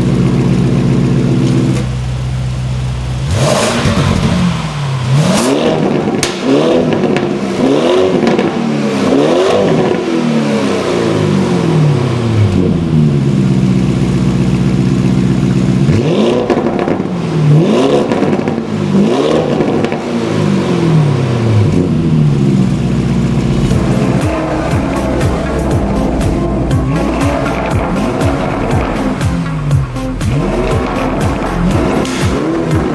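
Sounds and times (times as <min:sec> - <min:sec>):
car engine idling: 0:00.0 - 0:32.9
car engine revving: 0:00.0 - 0:32.9.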